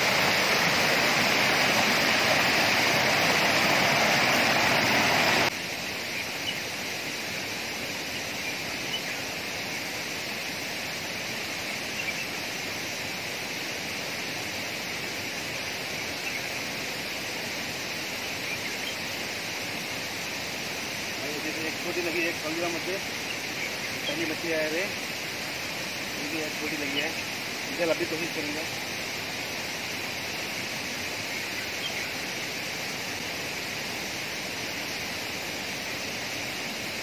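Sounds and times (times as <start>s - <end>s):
water rushing over rocks: 0.0s - 37.0s.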